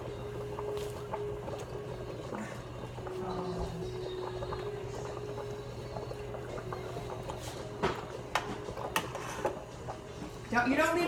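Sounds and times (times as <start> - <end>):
water bubbling in pot: 0.0 - 11.0.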